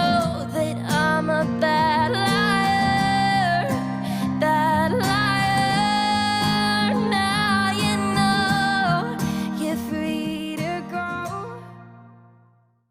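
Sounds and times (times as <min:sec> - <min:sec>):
guitar accompaniment: 0:00.0 - 0:12.6.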